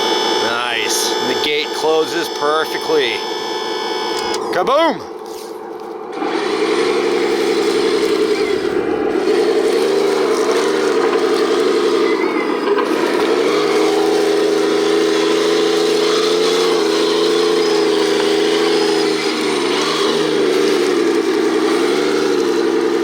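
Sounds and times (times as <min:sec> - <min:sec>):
toy truck motor drone: 0:00.0 - 0:05.4, 0:06.1 - 0:23.0.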